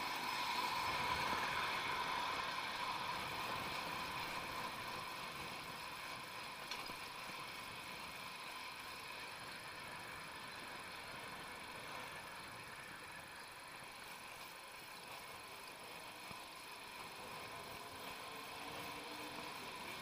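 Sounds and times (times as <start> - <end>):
bicycle riding on asphalt: 0.0 - 20.0.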